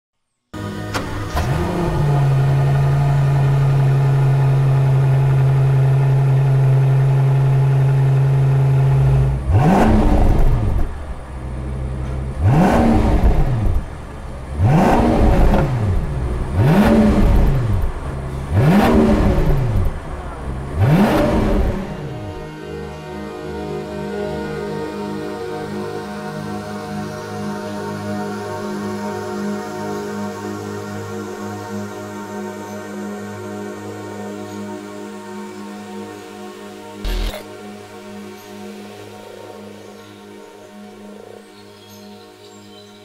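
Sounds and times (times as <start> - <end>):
car engine idling and revving: 0.6 - 35.2, 36.6 - 37.6.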